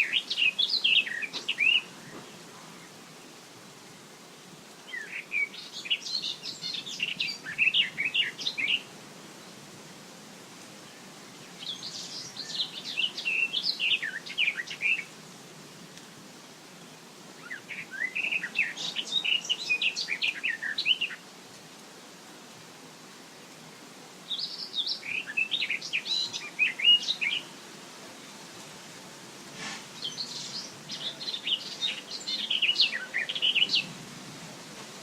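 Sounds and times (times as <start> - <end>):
songbird singing: 0.0 - 3.7, 4.4 - 9.9, 10.6 - 21.6, 23.0 - 35.0
wind hissing: 0.0 - 35.0.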